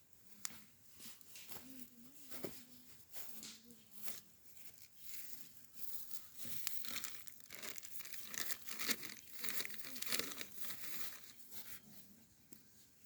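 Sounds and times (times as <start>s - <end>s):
crinkling and rustling: 0.3s - 12.9s.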